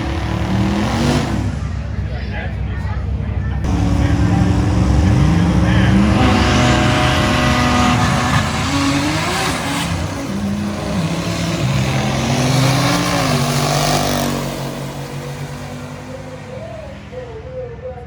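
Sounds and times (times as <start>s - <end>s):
car engine accelerating hard: 0.0s - 2.1s, 3.6s - 17.3s.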